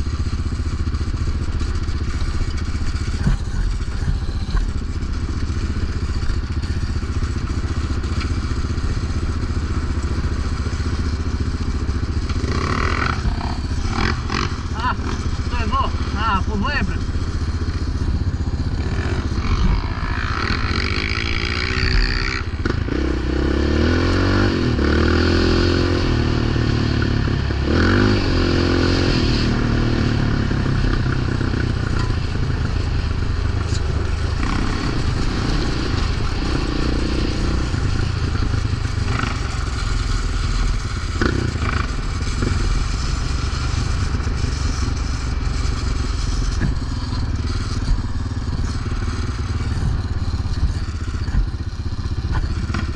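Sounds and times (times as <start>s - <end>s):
quad engine revving: 0.0s - 52.9s.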